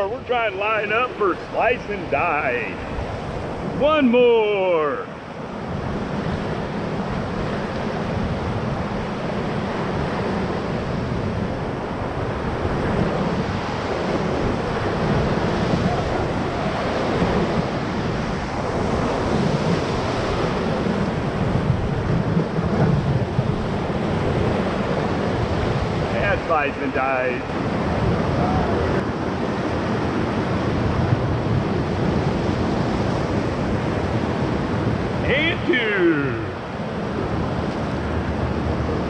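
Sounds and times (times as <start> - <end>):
rushing whitewater rapids: 0.0 - 39.0.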